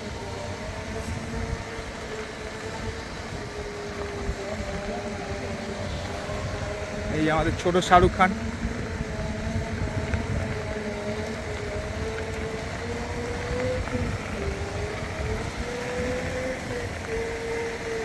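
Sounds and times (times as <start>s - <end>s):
electric drive whining: 0.0s - 18.0s
tyres rumbling on gravel: 0.0s - 18.0s.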